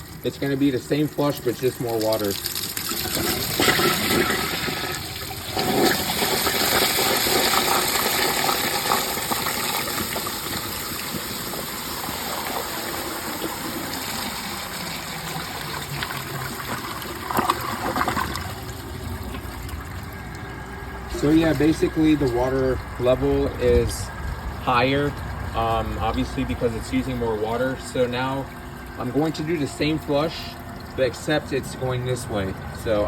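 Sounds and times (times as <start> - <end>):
toilet flushing: 0.0 - 33.0.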